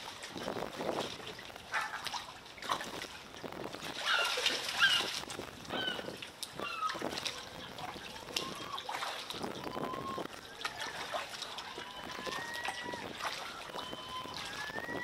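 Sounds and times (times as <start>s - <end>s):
water lapping among pilings: 0.0s - 15.0s.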